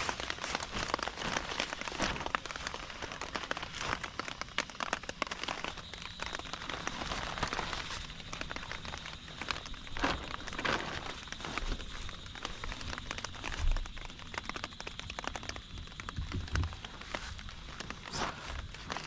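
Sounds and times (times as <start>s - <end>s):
rain drops striking a surface: 0.0s - 19.0s.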